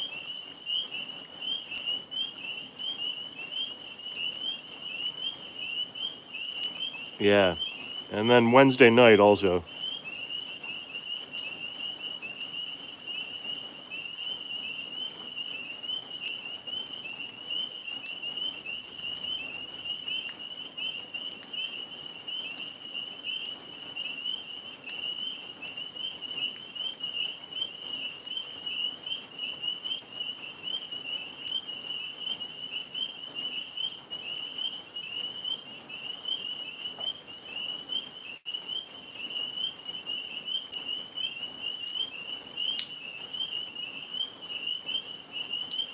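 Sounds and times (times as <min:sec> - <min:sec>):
tree frogs calling: 0:00.0 - 0:45.9.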